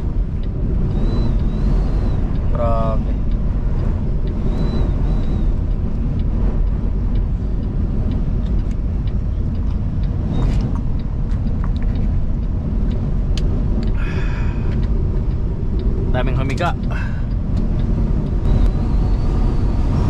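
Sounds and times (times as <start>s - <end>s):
truck engine rumble: 0.0s - 20.0s
wind noise: 0.0s - 20.0s.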